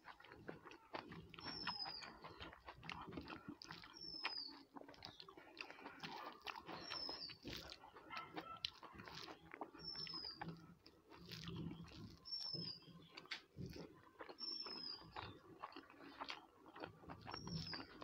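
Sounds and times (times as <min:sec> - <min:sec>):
chewing and smacking mouth sounds: 0:00.0 - 0:18.0.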